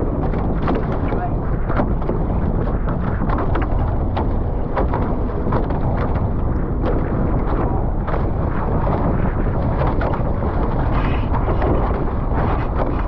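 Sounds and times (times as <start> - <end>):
short water splashes: 0.0 - 13.0
water rushing past hulls: 0.0 - 13.0
wind buffeting microphone: 0.0 - 13.0.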